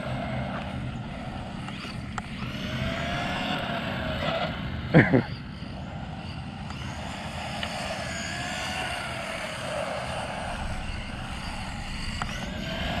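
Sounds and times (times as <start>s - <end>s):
rc car electric motors whining: 0.0s - 13.0s.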